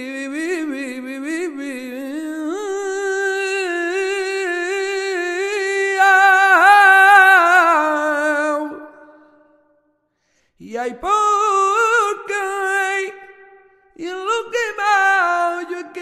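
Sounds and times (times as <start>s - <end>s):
man singing unaccompanied: 0.0s - 9.6s, 10.6s - 16.0s.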